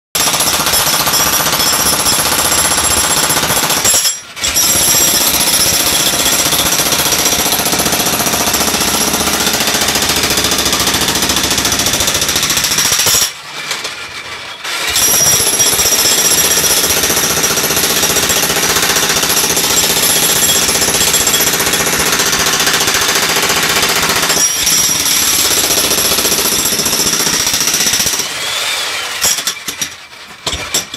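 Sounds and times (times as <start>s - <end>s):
jackhammer breaking concrete: 0.2s - 30.9s.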